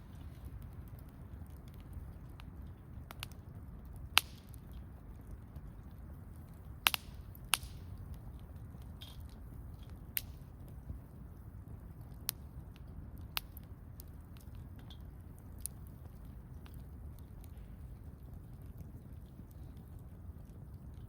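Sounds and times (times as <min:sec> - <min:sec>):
burning wood pops: 0:00.0 - 0:21.0
campfire crackling: 0:00.0 - 0:21.0.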